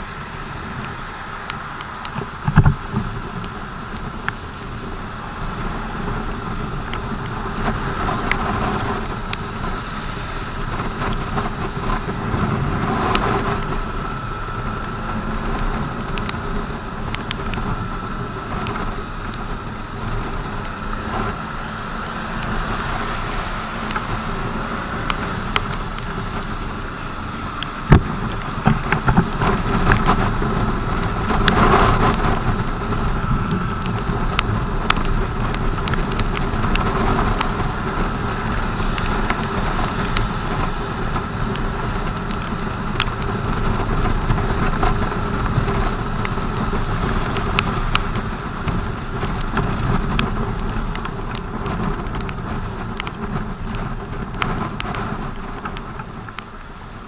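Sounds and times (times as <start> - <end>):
wind and road noise: 0.0 - 57.0
motorcycle engine running: 10.4 - 56.6
sharp ticks: 10.7 - 56.6.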